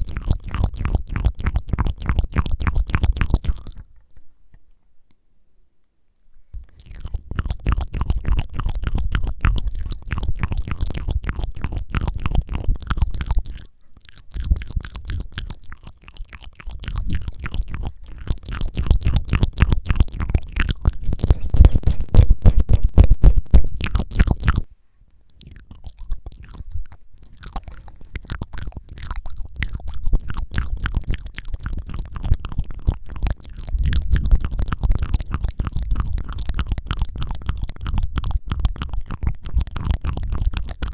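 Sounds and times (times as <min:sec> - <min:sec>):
wet tongue flutters and clicks: 0:00.0 - 0:04.2, 0:06.6 - 0:24.7, 0:25.3 - 0:40.9.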